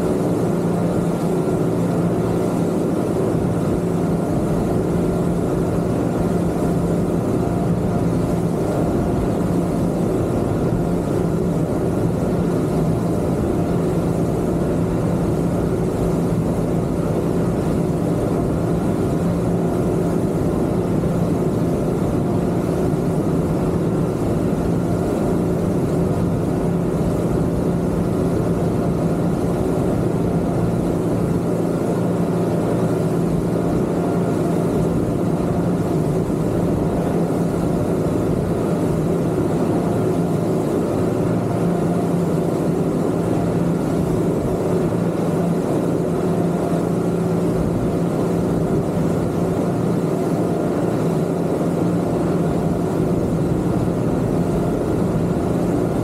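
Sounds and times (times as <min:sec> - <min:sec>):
outboard motors droning: 0:00.0 - 0:56.0.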